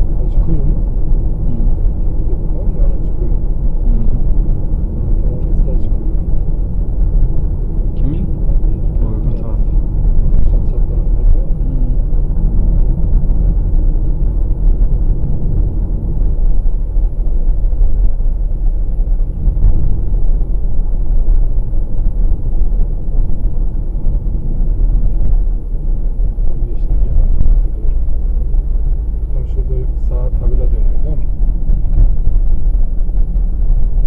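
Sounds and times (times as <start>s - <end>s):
car engine drone: 0.0s - 34.0s
road and tyre rumble: 0.0s - 34.0s.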